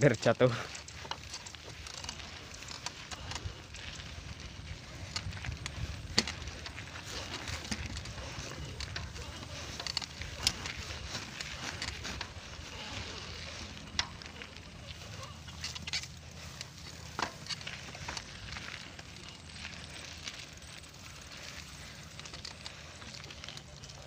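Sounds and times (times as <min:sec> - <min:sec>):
footsteps on dirt path: 0:00.0 - 0:24.0
grass rustling and crackling: 0:00.0 - 0:24.0
steady low rumble: 0:00.6 - 0:23.8.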